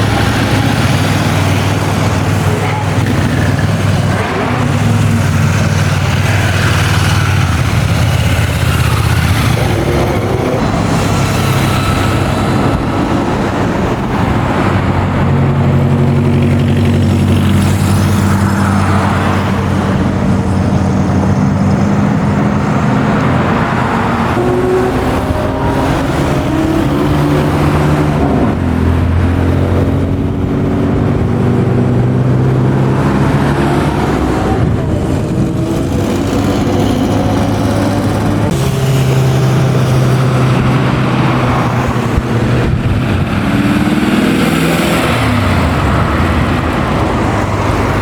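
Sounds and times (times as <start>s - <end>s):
car engines rumbling: 0.0s - 48.0s.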